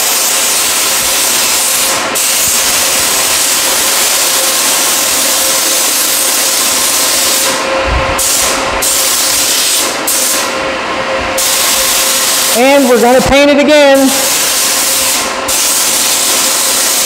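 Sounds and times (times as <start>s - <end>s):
paint spray gun hissing: 0.0s - 7.6s, 8.2s - 10.5s, 11.4s - 12.7s, 14.0s - 17.0s.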